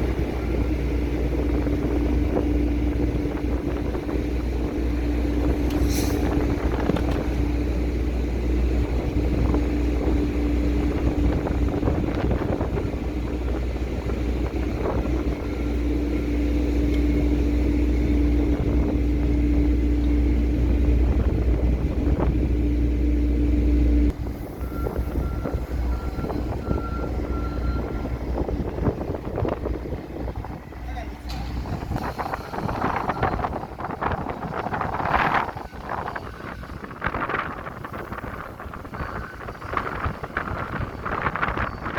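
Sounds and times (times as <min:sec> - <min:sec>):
heavy machinery rumble and hum: 0:00.0 - 0:41.9.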